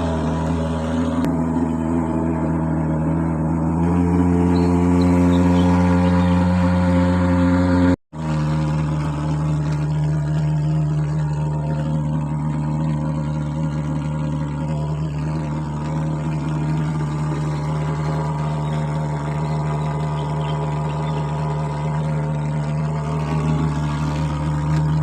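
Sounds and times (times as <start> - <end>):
fogging machine droning: 0.0 - 25.0.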